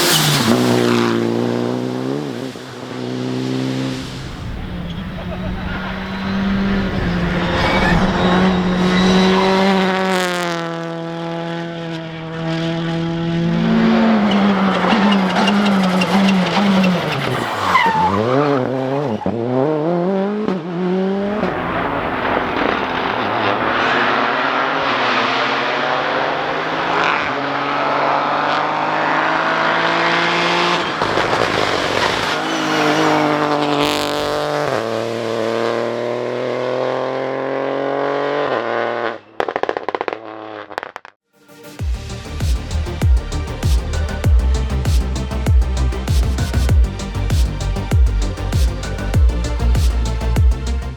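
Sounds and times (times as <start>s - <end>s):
tyres skidding: 0.0s - 10.7s, 12.0s - 19.6s, 21.2s - 36.3s, 42.0s - 50.9s
rally car engines revving: 0.0s - 39.2s, 42.0s - 50.9s.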